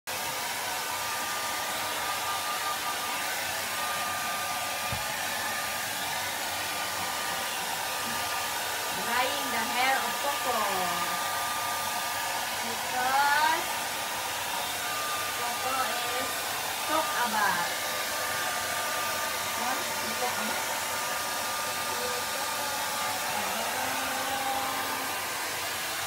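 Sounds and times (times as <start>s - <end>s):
hair dryer blowing: 0.1s - 26.0s.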